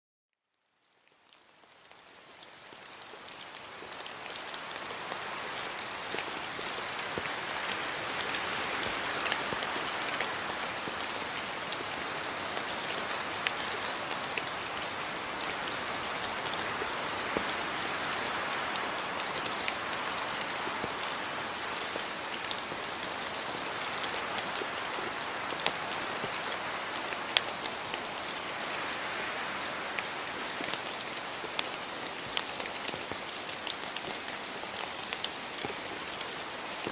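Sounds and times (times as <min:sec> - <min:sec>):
raindrops ticking on a surface: 0:00.4 - 0:36.9
steady rain falling: 0:00.4 - 0:36.9.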